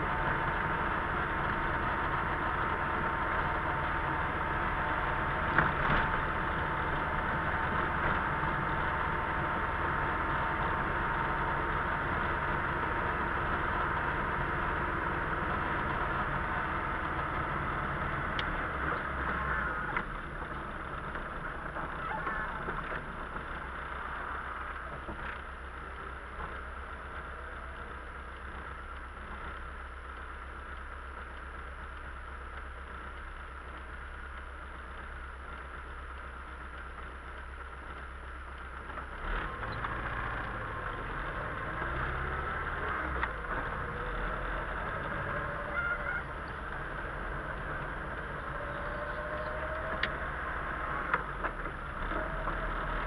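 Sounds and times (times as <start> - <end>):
car engine hum: 0.0 - 53.0.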